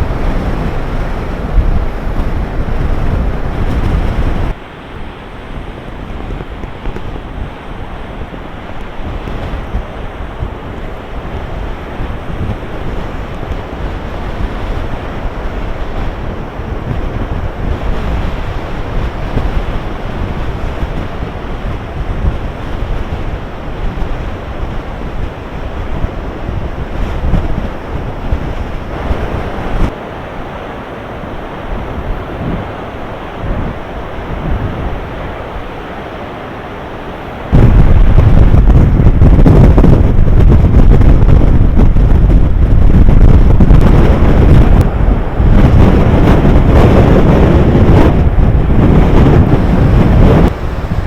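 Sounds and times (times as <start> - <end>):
storm waves breaking: 0.0 - 51.0
wind buffeting microphone: 0.0 - 51.0.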